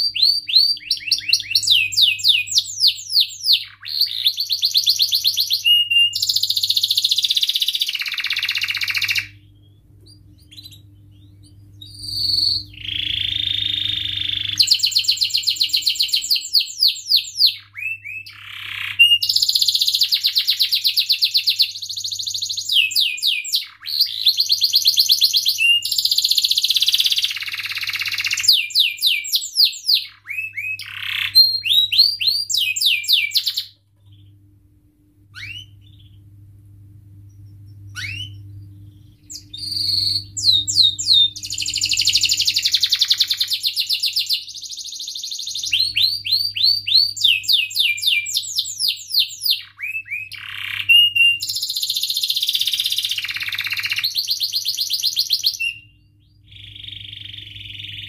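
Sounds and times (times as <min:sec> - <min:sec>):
canary trilling and chirping: 0:00.0 - 0:34.4, 0:35.3 - 0:36.2, 0:37.2 - 0:58.0.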